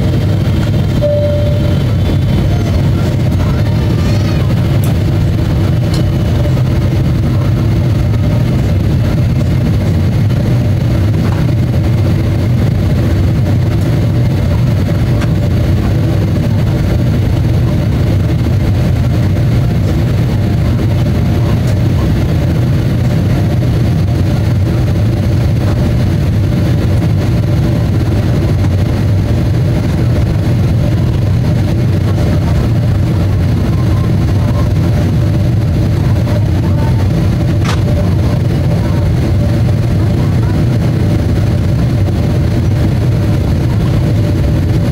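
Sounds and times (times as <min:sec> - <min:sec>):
airplane cabin drone: 0:00.0 - 0:44.9
steady hums: 0:00.0 - 0:44.9.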